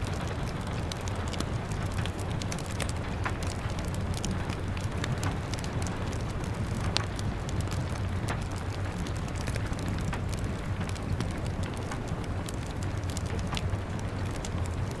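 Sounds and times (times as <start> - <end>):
rain on a window pane: 0.0 - 15.0
wood fire crackling: 0.0 - 15.0.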